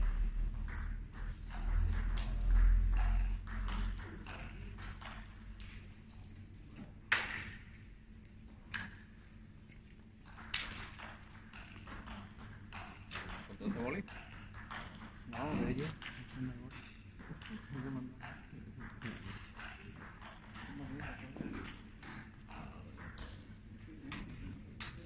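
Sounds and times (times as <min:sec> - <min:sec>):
table tennis balls bouncing: 0:00.0 - 0:08.0, 0:08.6 - 0:09.2, 0:10.0 - 0:25.0.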